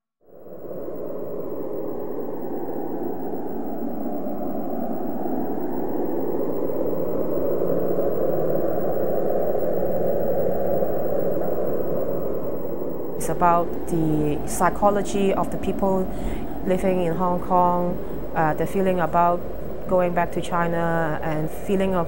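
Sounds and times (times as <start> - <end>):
faint low hum: 0.3 - 22.0
low rushing noise: 0.3 - 22.0.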